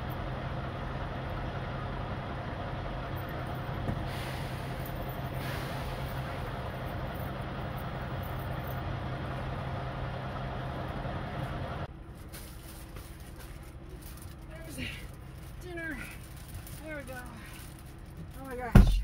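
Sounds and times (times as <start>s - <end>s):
diesel truck engines idling: 0.0s - 19.0s.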